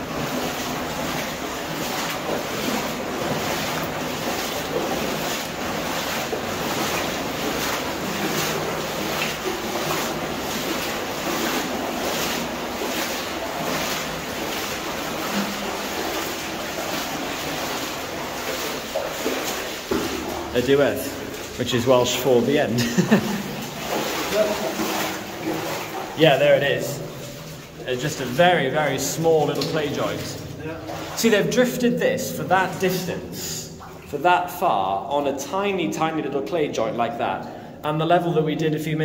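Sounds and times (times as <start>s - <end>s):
footsteps splashing through water: 0.0s - 35.1s.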